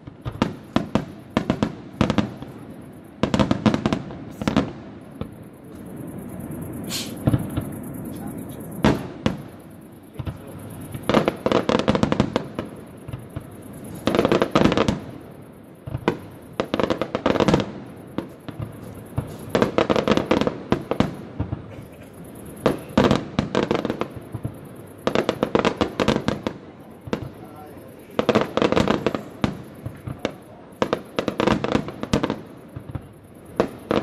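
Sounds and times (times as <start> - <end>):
fireworks crackling: 0.0 - 34.0.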